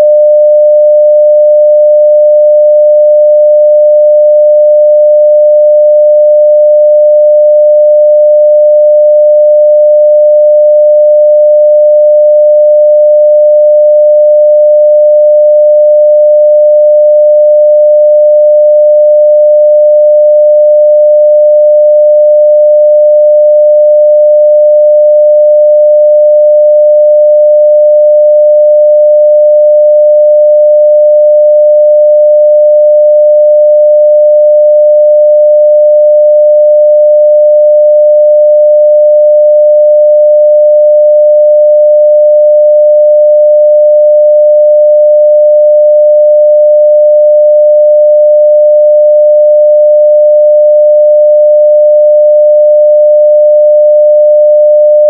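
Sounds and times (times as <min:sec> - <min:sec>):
sine-wave test tone: 0:00.0 - 0:55.0.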